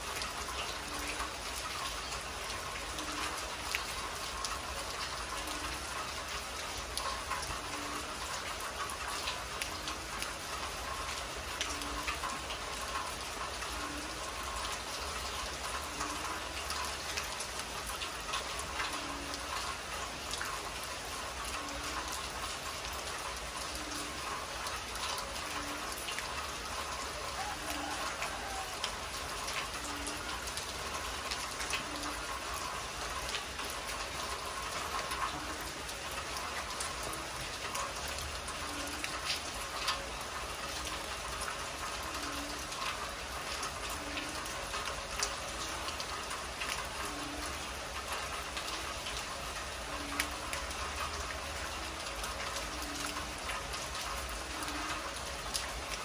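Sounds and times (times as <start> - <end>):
heavy rain on concrete: 0.0 - 56.0.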